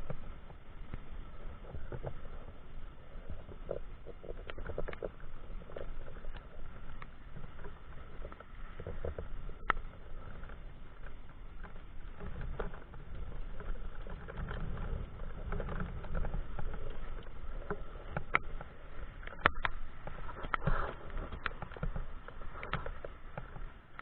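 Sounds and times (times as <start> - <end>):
bike tyres on wet road: 0.0 - 24.0
sharp clicks and knocks: 3.6 - 24.0.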